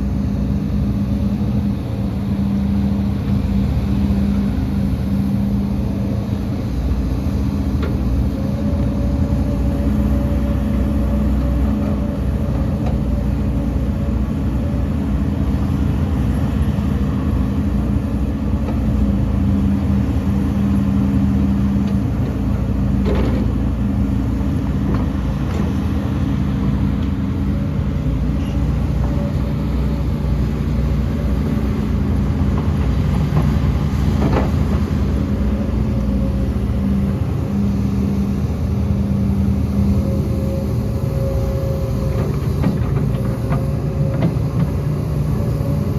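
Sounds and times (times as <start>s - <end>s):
diesel machine engine running: 0.0s - 45.9s.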